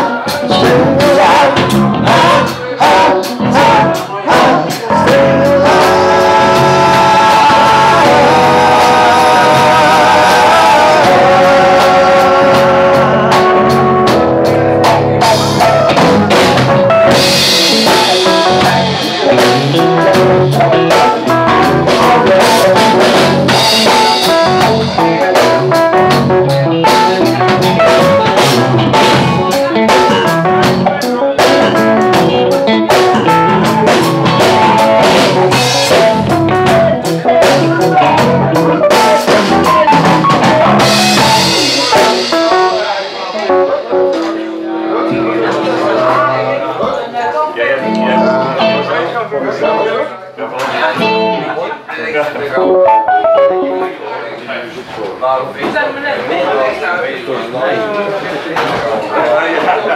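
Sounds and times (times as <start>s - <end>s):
live rock band playing: 0.0s - 47.1s, 47.7s - 50.0s, 50.8s - 51.7s, 52.5s - 54.2s.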